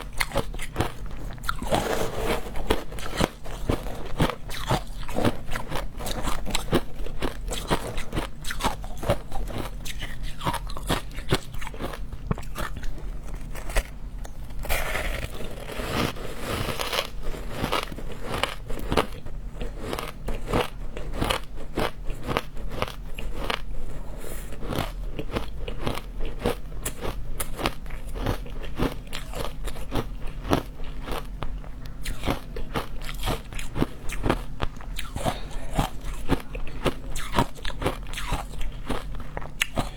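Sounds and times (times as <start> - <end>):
ice being chewed with crunches: 0.0 - 39.9.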